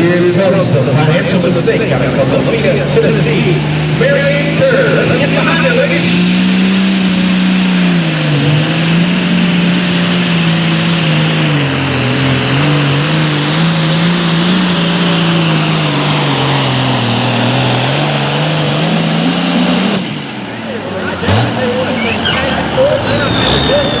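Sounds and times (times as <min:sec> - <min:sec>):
diesel tractor engine under load: 0:00.0 - 0:24.0.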